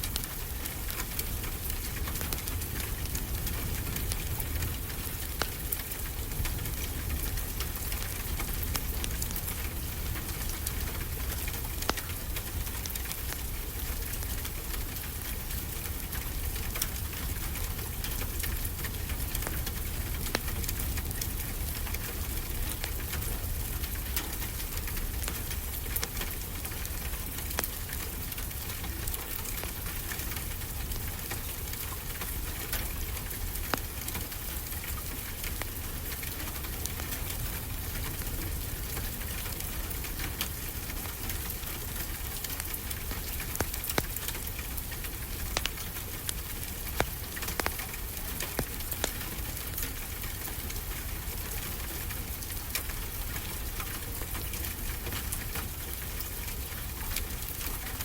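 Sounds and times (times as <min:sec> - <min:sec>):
rain pattering: 0:00.0 - 0:58.0
wood fire crackling: 0:00.0 - 0:58.0.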